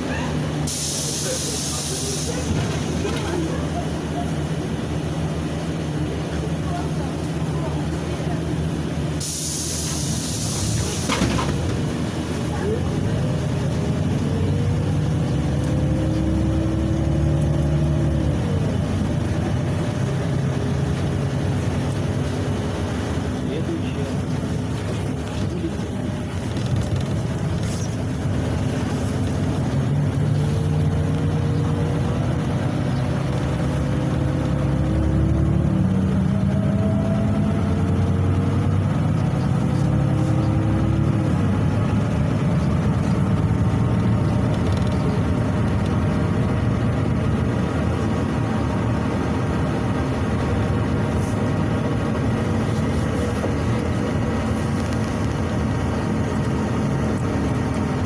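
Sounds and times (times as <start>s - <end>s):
bus engine and drivetrain whine: 0.0s - 58.0s
road noise: 0.0s - 58.0s.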